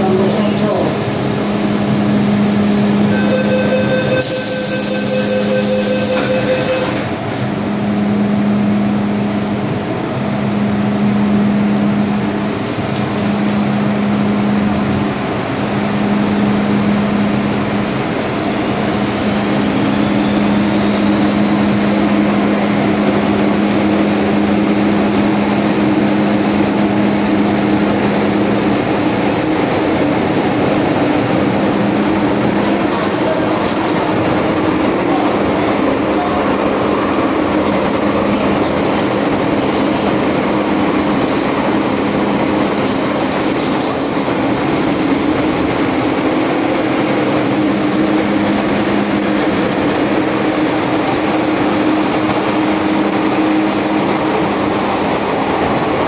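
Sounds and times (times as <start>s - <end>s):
wheel and tunnel noise: 0.0s - 56.0s
high whine rising in pitch: 1.3s - 33.2s, 34.1s - 56.0s.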